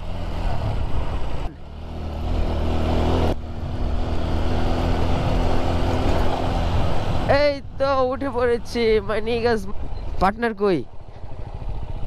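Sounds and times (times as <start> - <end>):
motorcycle engine running hard: 0.0 - 12.0.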